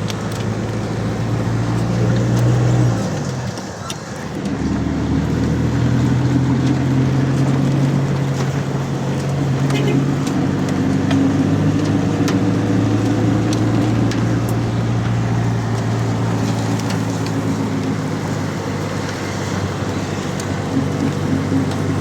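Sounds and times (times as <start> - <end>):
rain: 0.0 - 22.0
vehicle engine idling: 0.0 - 22.0.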